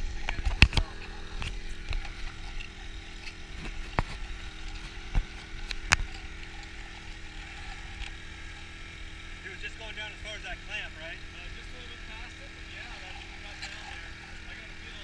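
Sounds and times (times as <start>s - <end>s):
pump motor running: 0.0s - 15.0s.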